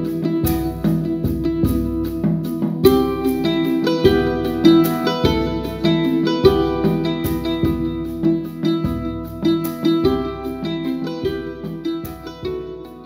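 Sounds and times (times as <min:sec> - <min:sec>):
plucked-string instrumental music: 0:00.0 - 0:13.0
steady bass beat: 0:00.0 - 0:13.0.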